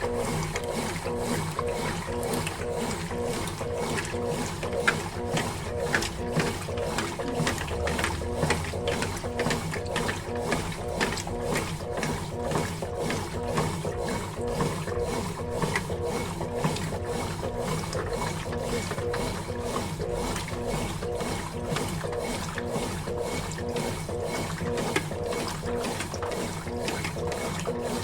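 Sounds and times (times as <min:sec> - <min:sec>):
washing machine drum clicking: 0:00.0 - 0:27.8
washing machine motor humming: 0:00.0 - 0:28.0.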